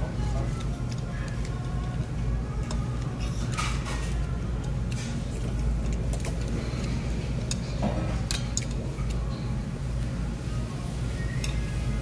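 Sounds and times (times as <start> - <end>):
restaurant dining room hum: 0.0 - 12.0.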